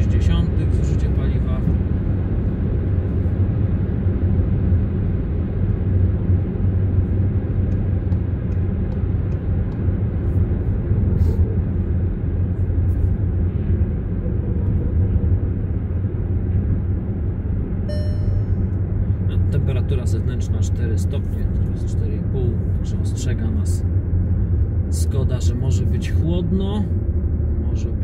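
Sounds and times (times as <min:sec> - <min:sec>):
car cabin engine and tyre rumble: 0:00.0 - 0:28.0.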